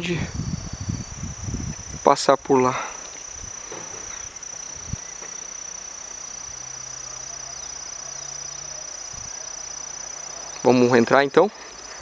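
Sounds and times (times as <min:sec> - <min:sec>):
insect chirring: 0:00.0 - 0:12.0.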